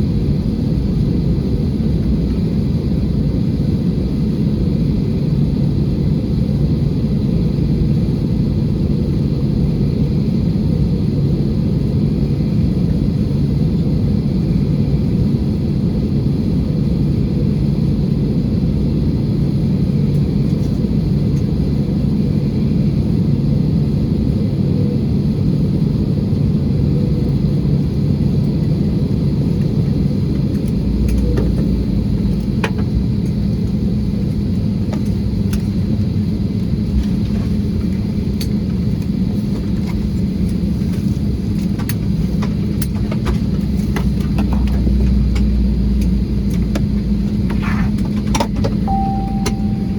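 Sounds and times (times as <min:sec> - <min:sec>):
aircraft cabin hum: 0:00.0 - 0:49.9.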